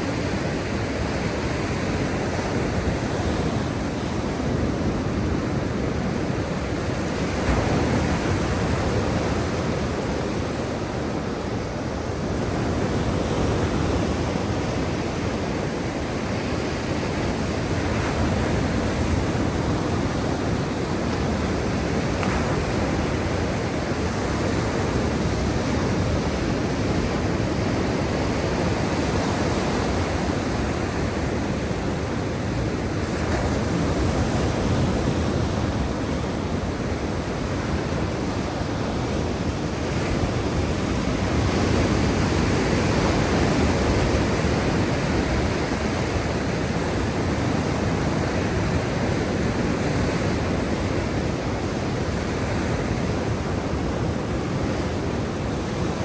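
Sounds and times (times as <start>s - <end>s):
waves washing in: 0.0s - 56.0s.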